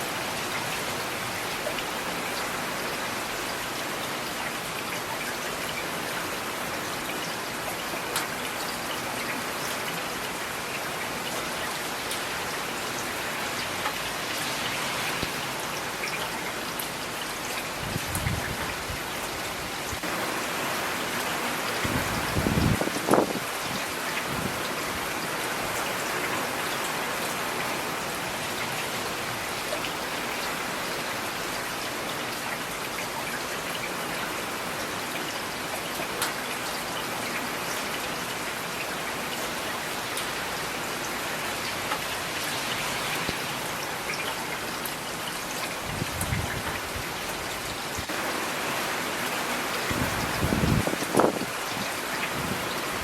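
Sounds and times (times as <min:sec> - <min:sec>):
steady rain falling: 0:00.0 - 0:53.0
raindrops ticking on a surface: 0:00.1 - 0:48.2.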